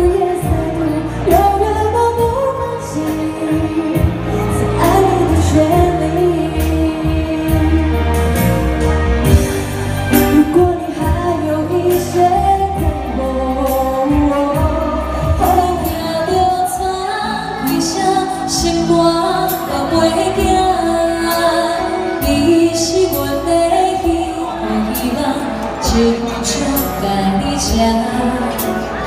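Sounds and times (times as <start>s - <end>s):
electric keyboard: 0.0s - 29.0s
woman singing pop song: 0.0s - 29.0s.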